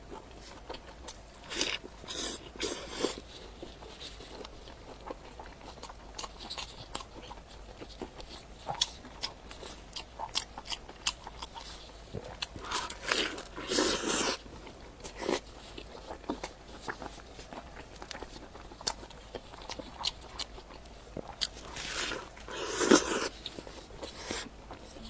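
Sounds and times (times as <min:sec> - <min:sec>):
chewing and biting: 0:00.0 - 0:25.0.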